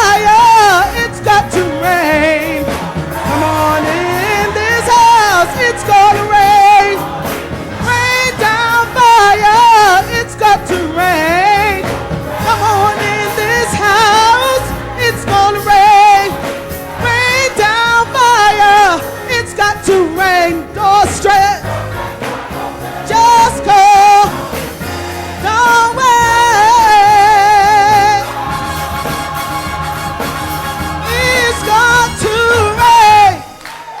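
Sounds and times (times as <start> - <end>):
musical accompaniment: 0.0 - 34.0
person singing with vibrato: 0.0 - 34.0.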